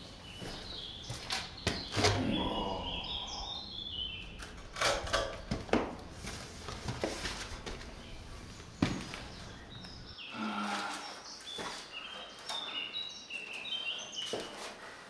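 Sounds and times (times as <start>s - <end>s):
bird singing: 0.0s - 6.1s, 7.6s - 14.6s.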